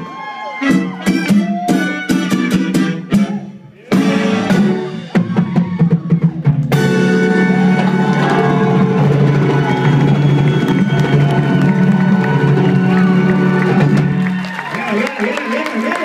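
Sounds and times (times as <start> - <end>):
live salsa band playing: 0.5 - 14.9.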